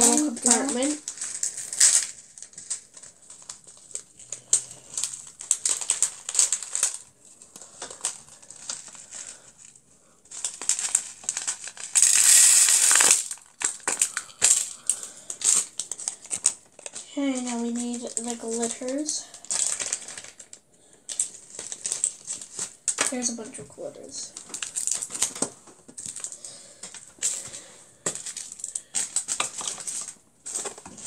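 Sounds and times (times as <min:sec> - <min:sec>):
beads rushing out: 0:00.0 - 0:09.3, 0:10.3 - 0:20.5, 0:24.4 - 0:31.0
plastic packet crinkling: 0:00.0 - 0:31.0.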